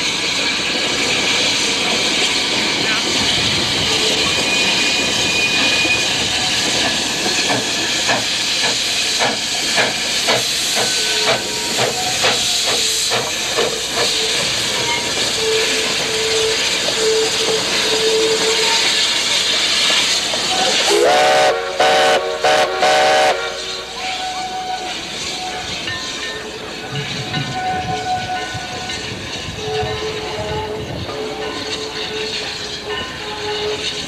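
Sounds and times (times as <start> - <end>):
steam hissing: 0.0 - 34.0
steam locomotive chuffing beat: 0.0 - 34.0.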